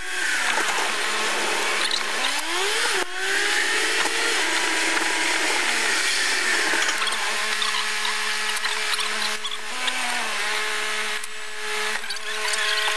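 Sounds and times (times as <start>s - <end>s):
car engine whining: 0.0s - 12.9s.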